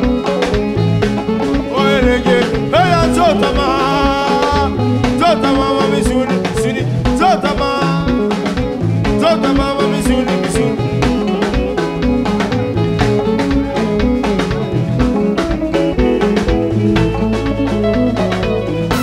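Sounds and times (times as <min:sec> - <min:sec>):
live band dance music: 0:00.0 - 0:19.0.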